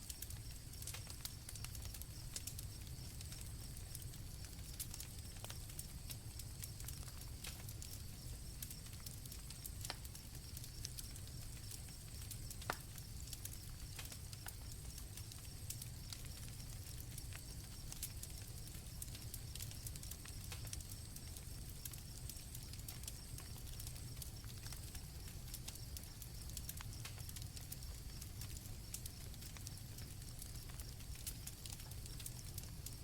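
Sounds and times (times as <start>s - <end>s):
campfire crackling: 0.0s - 33.0s
crickets chirping: 0.0s - 33.0s.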